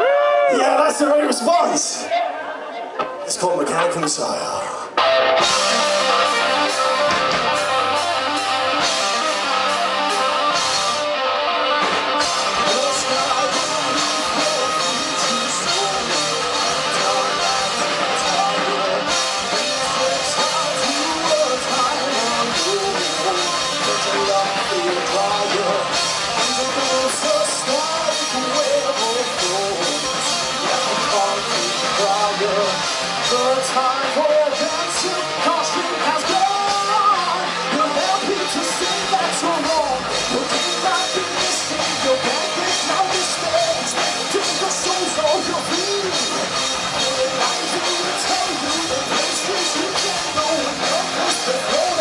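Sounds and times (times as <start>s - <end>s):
guitar: 0.0s - 52.0s
drum kit: 5.0s - 52.0s.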